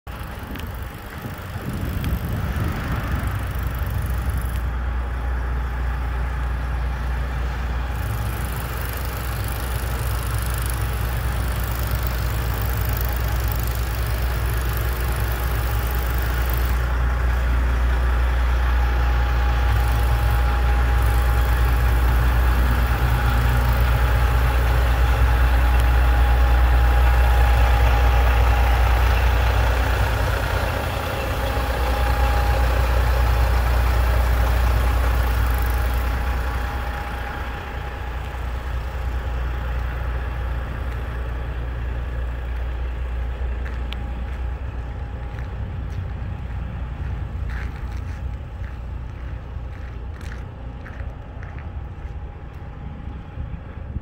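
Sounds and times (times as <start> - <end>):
truck diesel engine: 0.0 - 54.0
thin steady whine: 0.1 - 54.0.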